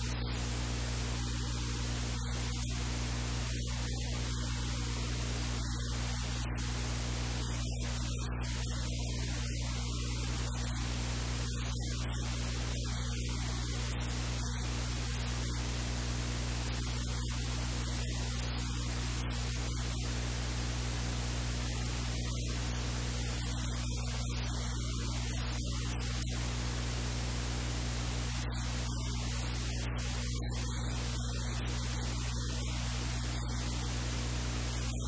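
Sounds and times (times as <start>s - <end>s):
low electrical hum: 0.0s - 35.0s
steady hiss: 0.0s - 35.0s.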